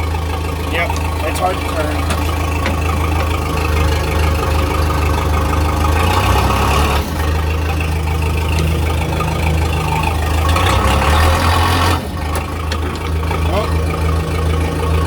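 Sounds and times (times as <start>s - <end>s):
backhoe engine idling: 0.0s - 15.0s.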